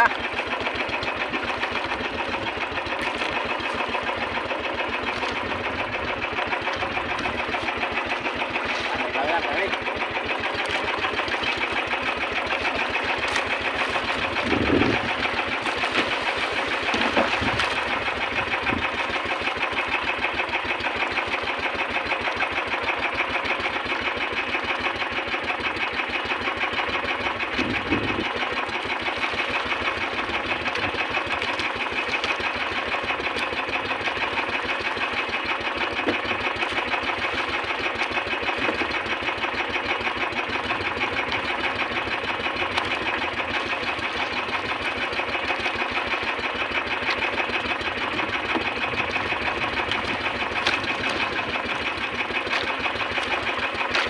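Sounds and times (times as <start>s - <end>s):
small boat engine running: 0.0s - 54.0s.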